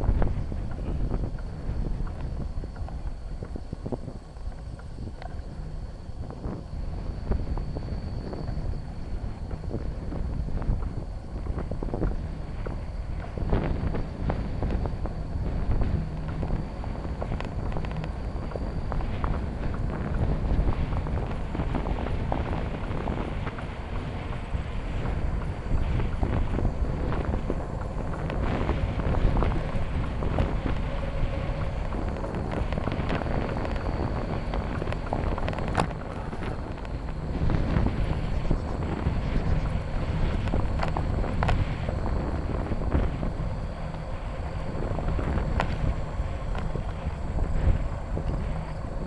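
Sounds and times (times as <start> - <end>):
bicycle rattles and knocks: 0.0 - 6.6, 7.3 - 49.0
bicycle tyres rumbling: 0.0 - 49.0
wind on microphone: 0.0 - 49.0.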